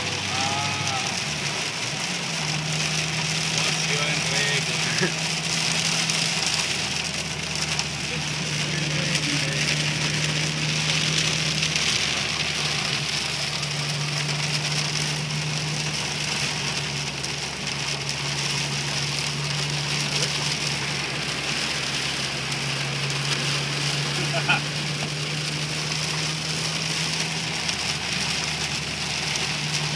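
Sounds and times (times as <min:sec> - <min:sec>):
heavy rain: 0:00.0 - 0:29.9.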